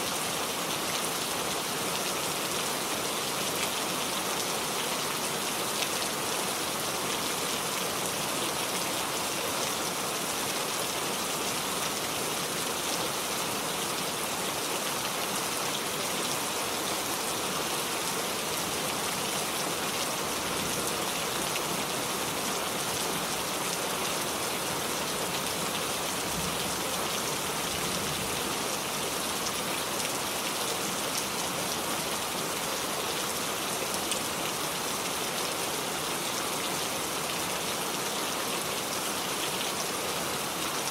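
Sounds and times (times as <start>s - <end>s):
heavy rainfall: 0.0s - 40.9s.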